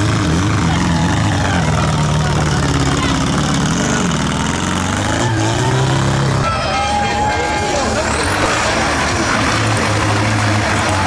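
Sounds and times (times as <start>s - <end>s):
tractor engine revving: 0.0s - 11.0s.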